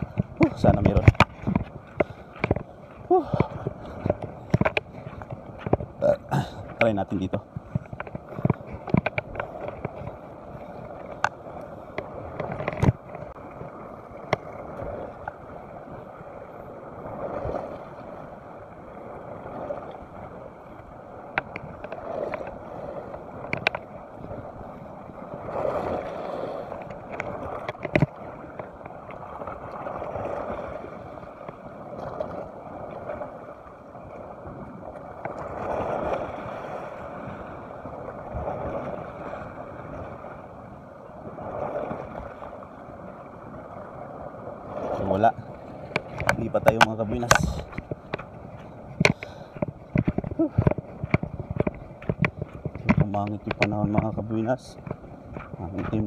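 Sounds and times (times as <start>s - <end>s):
waves sloshing against rocks: 0.0s - 56.0s.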